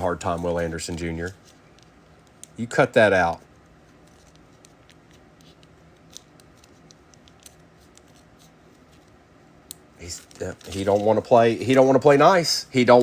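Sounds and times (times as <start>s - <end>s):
low room hum: 0.0s - 13.0s
trading cards clicking: 0.2s - 11.8s.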